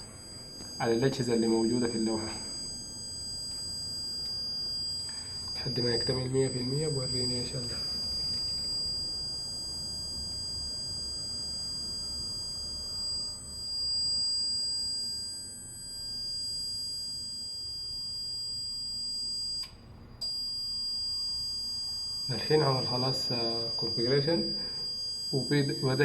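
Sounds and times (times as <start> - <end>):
high-pitched alarm panel buzzer: 0.0 - 26.0.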